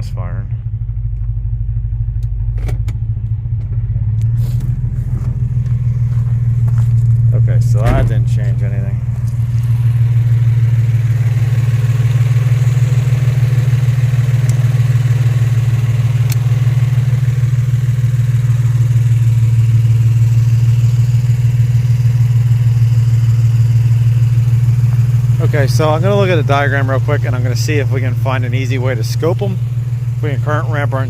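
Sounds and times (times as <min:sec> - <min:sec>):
car engine misfiring: 0:00.0 - 0:31.0.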